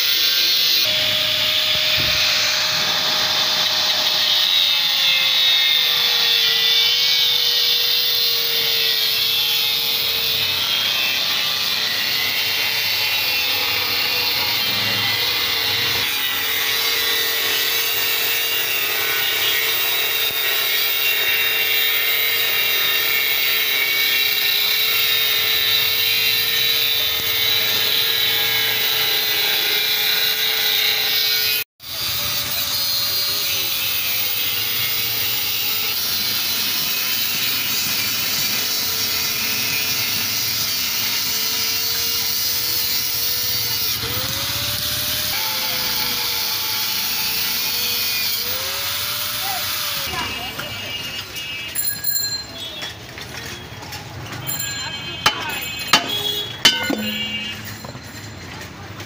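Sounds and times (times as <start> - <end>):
angle grinder cutting steel: 0.0 - 53.5, 54.1 - 59.0.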